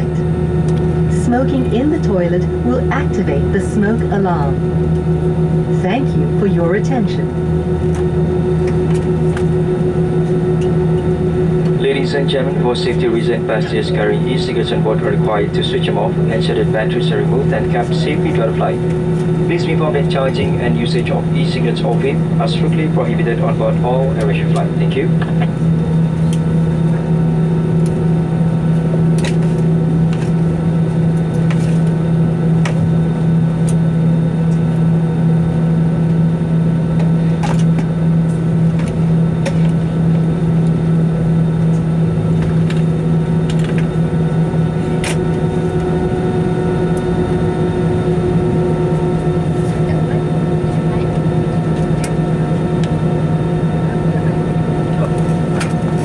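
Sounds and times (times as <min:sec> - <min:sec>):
faint steady whines: 0:00.0 - 0:56.0
low hum of engines and air conditioning: 0:00.0 - 0:56.0.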